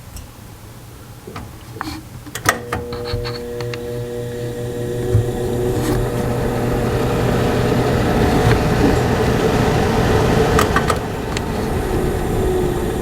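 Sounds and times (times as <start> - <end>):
range hood fan spinning down: 2.4 - 13.0.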